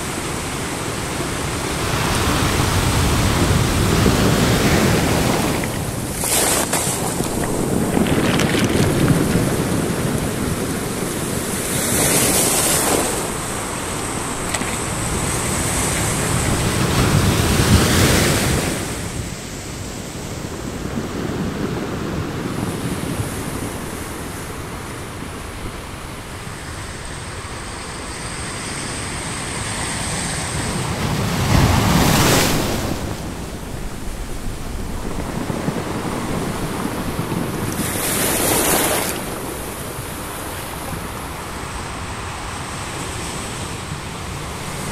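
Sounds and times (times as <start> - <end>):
waves breaking on stones: 0.0 - 25.6, 30.5 - 44.9
surf washing over pebbles: 0.0 - 27.9, 29.6 - 44.9.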